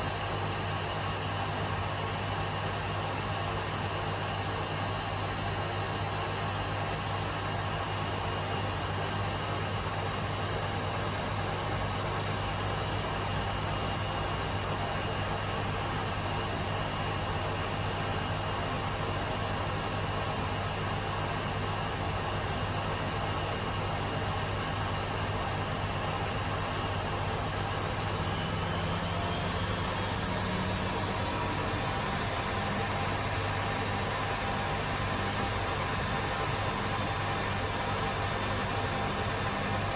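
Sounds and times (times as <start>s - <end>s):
high motor whine: 0.0s - 39.9s
washing machines spinning: 0.0s - 39.9s.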